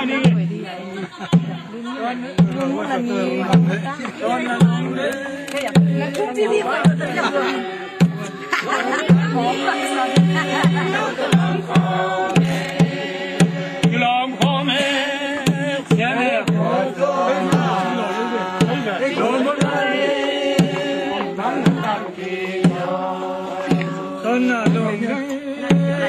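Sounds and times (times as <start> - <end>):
group singing a chant: 0.0 - 26.0
steady drum beat: 0.0 - 26.0.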